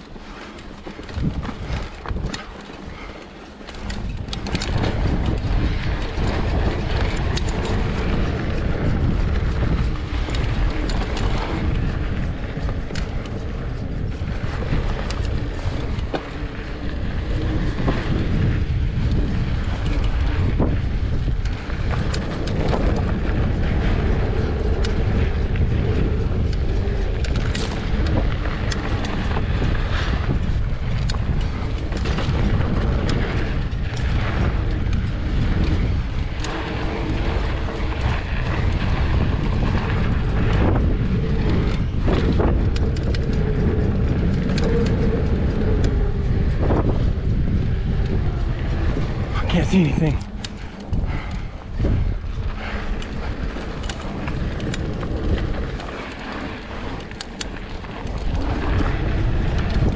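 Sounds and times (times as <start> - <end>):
bike clicks and rattles: 0.0 - 59.9
wind and tyre rumble: 0.0 - 59.9.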